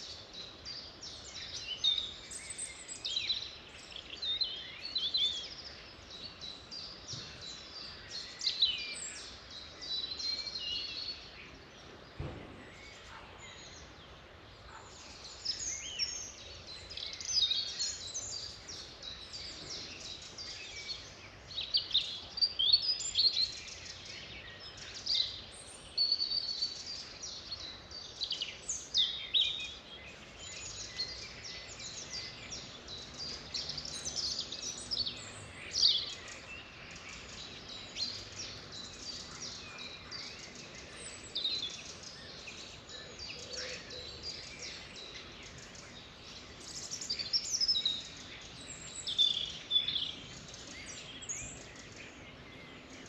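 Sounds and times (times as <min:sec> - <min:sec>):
faint background hiss: 0:00.0 - 0:53.0
songbirds singing and chirping: 0:00.0 - 0:53.0.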